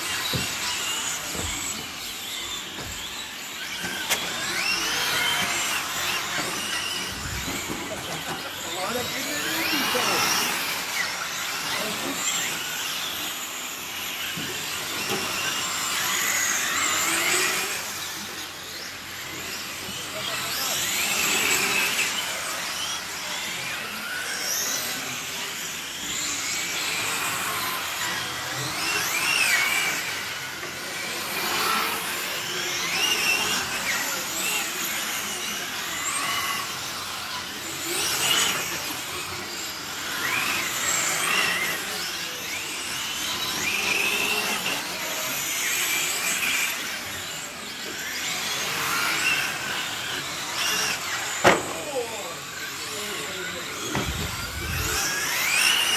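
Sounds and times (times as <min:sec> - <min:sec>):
radio-controlled car motors whining: 0:00.0 - 0:55.9.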